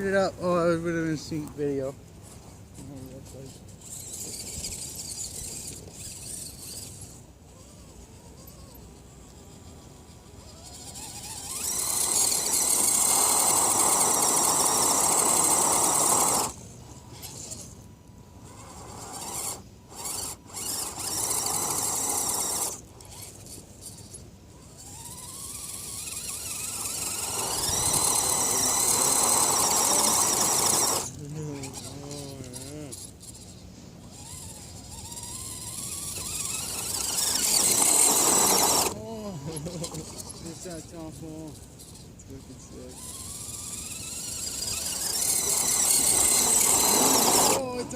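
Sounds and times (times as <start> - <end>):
rc car electric motor whining: 0.0 - 47.9.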